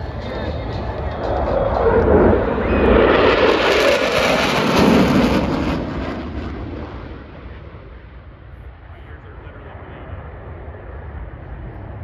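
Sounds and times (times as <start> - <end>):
jet aircraft passing: 0.0 - 12.0.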